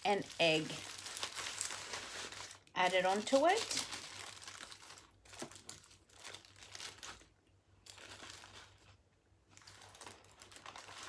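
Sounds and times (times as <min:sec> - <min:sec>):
paper wrapper crinkling: 0:00.0 - 0:11.0.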